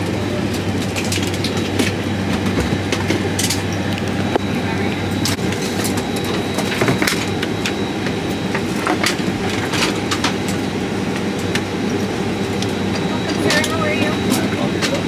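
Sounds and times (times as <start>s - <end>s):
aircraft cabin air rumble: 0.0s - 15.0s.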